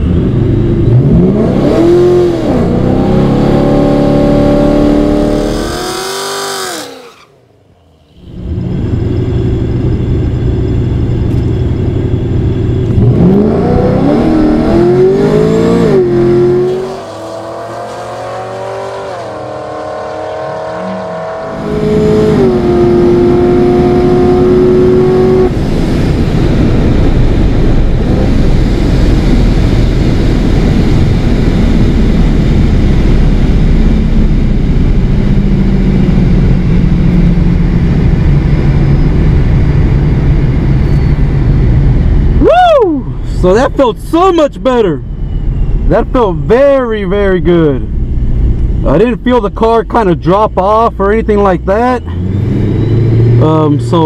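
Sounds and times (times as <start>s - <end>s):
car engine revving and accelerating: 0.0s - 7.4s, 12.8s - 42.4s, 47.6s - 54.0s.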